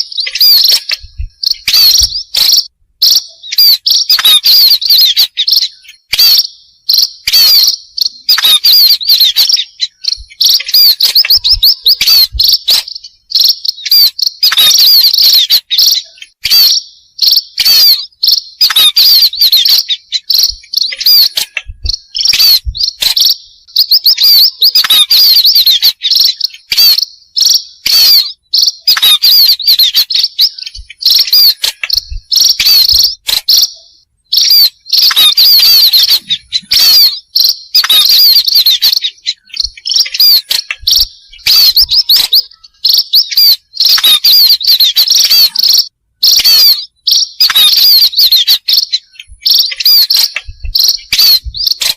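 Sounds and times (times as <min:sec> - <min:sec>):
high-pitched bird chirps: 0:00.0 - 0:51.9.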